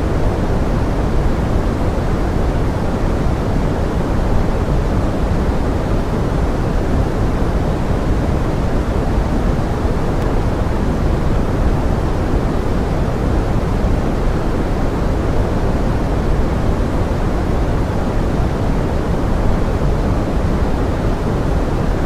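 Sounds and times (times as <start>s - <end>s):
pink noise: 0.0s - 22.0s.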